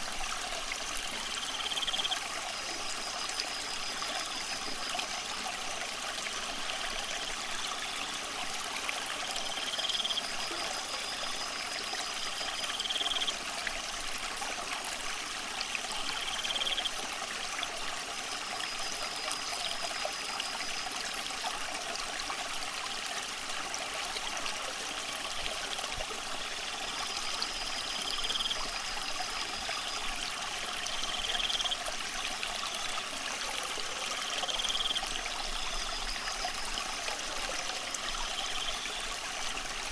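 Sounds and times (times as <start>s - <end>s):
aquarium water trickling and splashing: 0.0s - 39.9s.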